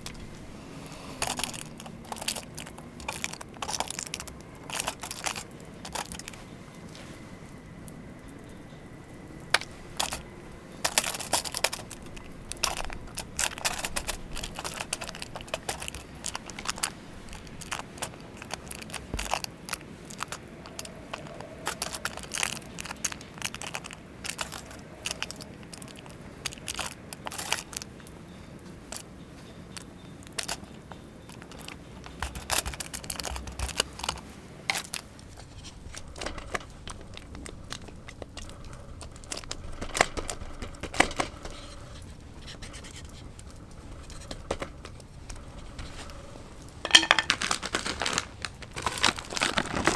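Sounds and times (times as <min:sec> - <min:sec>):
plastic packaging crinkling: 0:00.0 - 0:08.6, 0:09.2 - 0:49.9.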